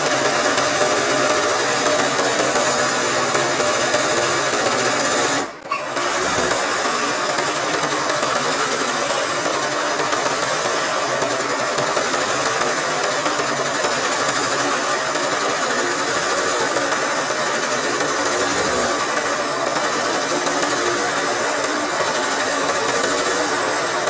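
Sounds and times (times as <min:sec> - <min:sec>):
sewing machine running: 0:00.0 - 0:24.0.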